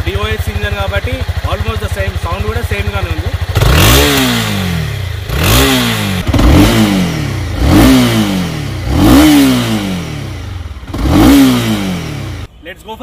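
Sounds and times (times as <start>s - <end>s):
motorcycle engine revving: 0.0s - 12.5s.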